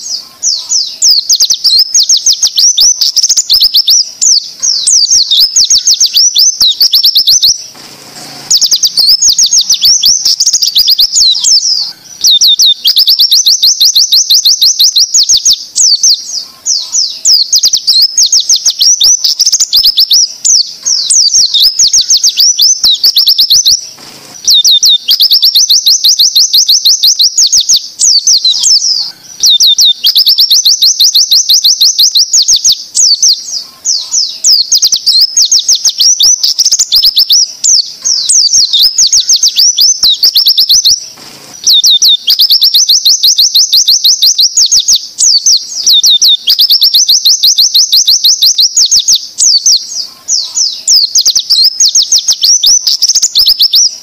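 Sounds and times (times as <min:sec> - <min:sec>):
bird singing fast high notes: 0:00.0 - 0:54.0.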